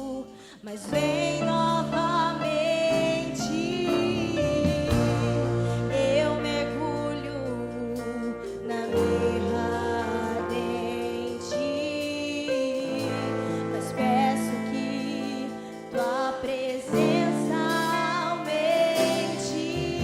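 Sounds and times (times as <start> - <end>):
keyboard chords: 0.0 - 20.0
person singing: 0.0 - 20.0.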